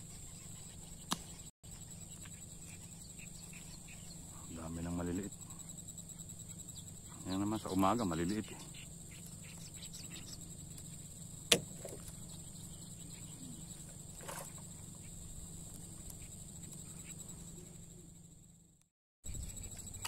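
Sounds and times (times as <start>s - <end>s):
high-pitched insect chirring: 0.0s - 20.0s.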